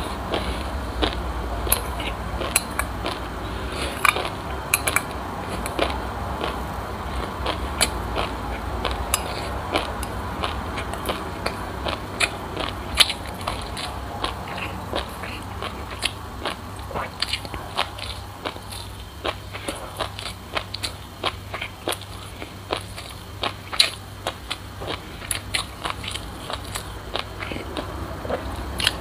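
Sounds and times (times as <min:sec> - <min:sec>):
crunchy chewing: 0:00.0 - 0:29.0
low steady hum: 0:00.0 - 0:29.0.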